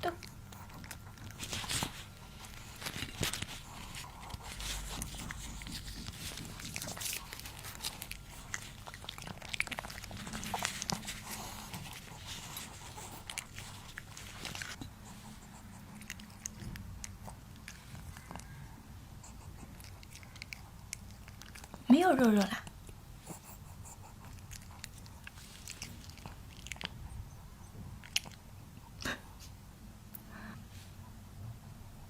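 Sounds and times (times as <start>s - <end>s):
puppy chewing and crunching food: 0.0s - 29.6s.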